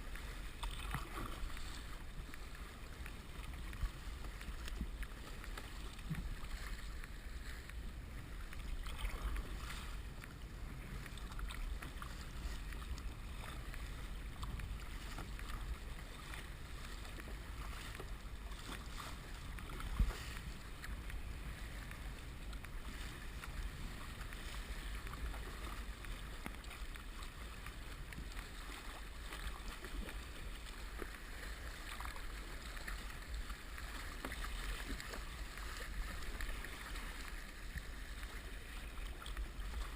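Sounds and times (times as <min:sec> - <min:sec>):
faint water splashes: 0:00.0 - 0:39.9
muffled rumble of water and wind: 0:00.0 - 0:39.9.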